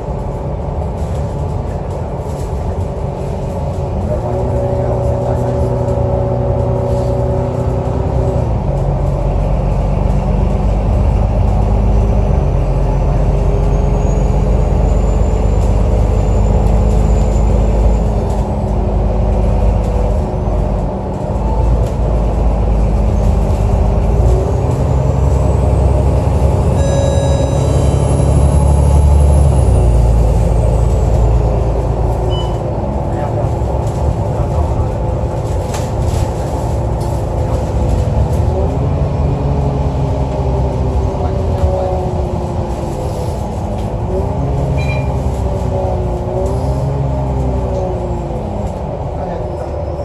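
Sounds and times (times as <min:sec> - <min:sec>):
bus engine changing gear: 0:00.0 - 0:50.0.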